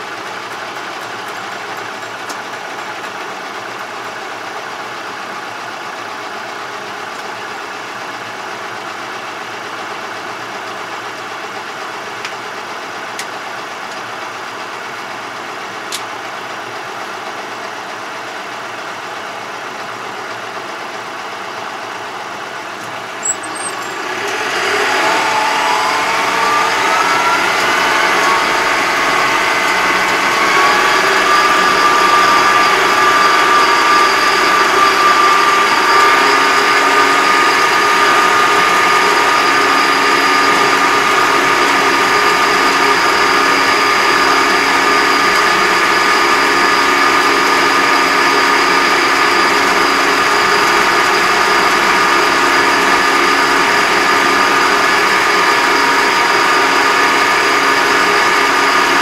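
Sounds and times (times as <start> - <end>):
high drivetrain whine: 0.0 - 59.0
tractor engine accelerating: 0.0 - 59.0.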